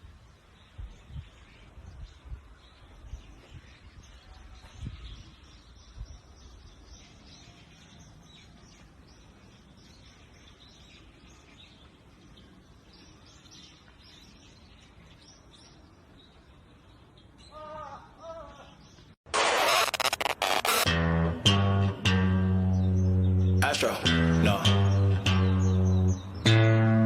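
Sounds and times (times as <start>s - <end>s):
small birds chirping: 0.0s - 20.9s, 22.4s - 27.0s.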